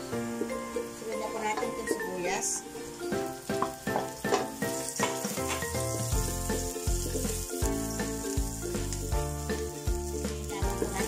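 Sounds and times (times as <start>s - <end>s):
background music: 0.0s - 11.0s
garlic and onion sizzling in oil: 0.0s - 11.0s
wooden spatula stirring in wok: 0.4s - 11.0s.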